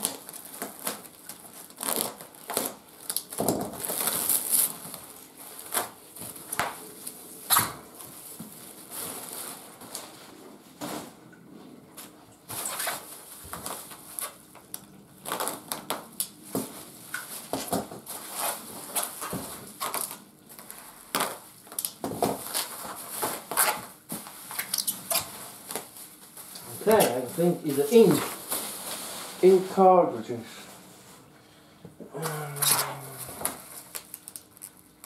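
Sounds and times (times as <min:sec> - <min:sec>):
paper and bubble wrap crinkling: 0:00.0 - 0:11.2, 0:11.9 - 0:31.2, 0:32.2 - 0:35.0.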